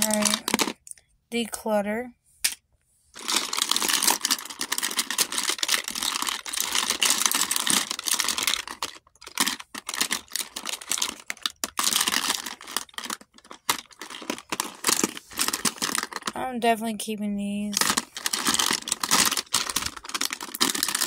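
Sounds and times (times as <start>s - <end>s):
plastic makeup items clattering: 0.0s - 1.0s, 3.2s - 16.5s, 17.7s - 21.0s.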